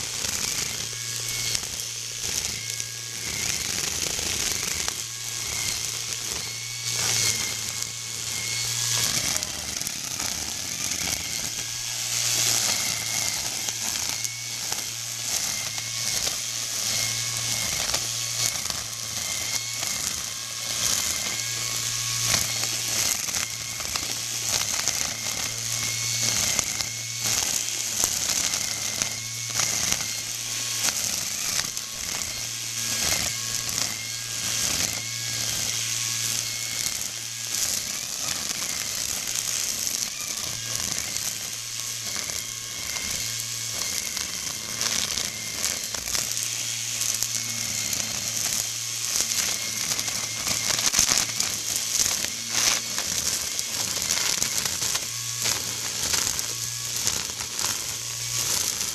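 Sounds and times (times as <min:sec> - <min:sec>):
string trimmer motor humming: 0:00.0 - 0:58.9.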